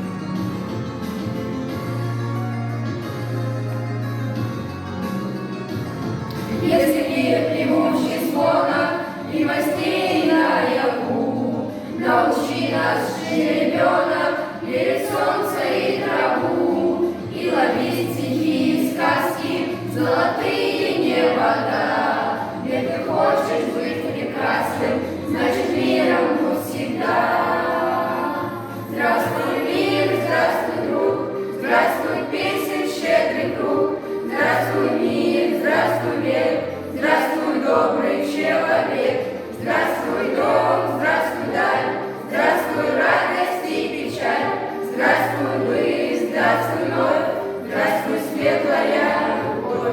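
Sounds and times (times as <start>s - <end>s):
instrumental accompaniment: 0.0s - 49.9s
children singing in unison: 6.4s - 49.9s.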